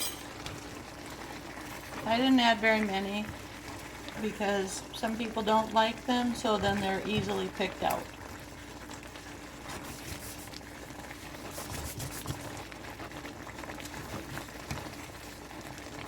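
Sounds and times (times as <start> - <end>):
sauce bubbling and crackling in a pan: 0.2 - 16.0.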